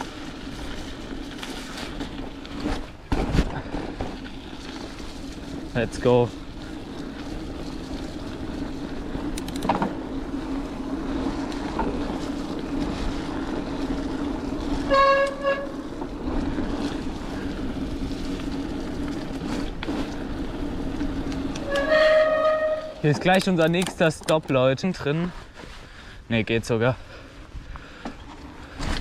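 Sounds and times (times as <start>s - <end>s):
bike tyres rolling: 0.0s - 29.0s.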